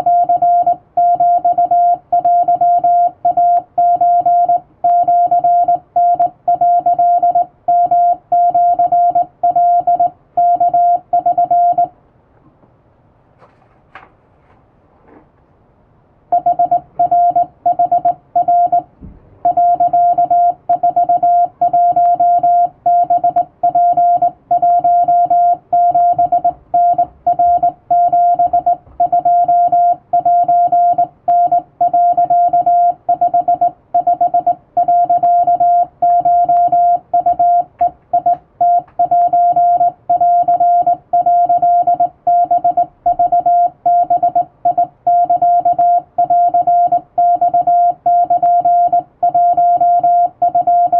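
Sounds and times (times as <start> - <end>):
morse code beeps: 0.0 - 11.9, 16.3 - 50.9.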